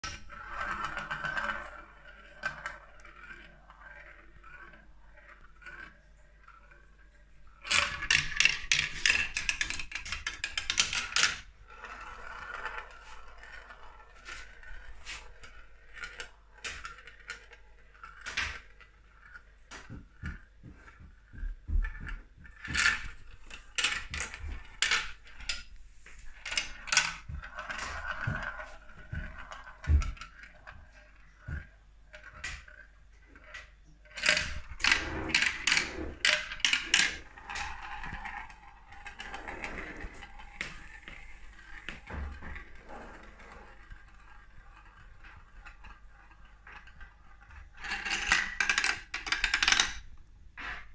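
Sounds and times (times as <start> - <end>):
marble clacking down a marble run: 0.0 - 39.3, 40.0 - 50.9.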